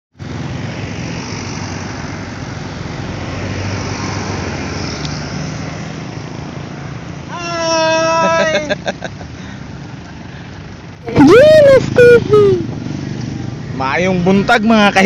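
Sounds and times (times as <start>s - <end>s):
tyres on concrete road: 0.1s - 15.0s
car and motorcycle engines: 0.2s - 15.0s.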